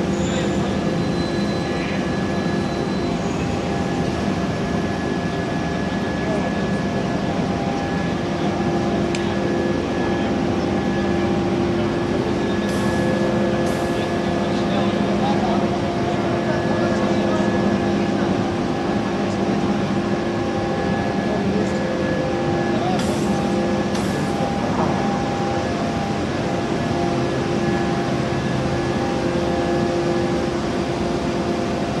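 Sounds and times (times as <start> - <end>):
forging machinery drone: 0.0 - 32.0.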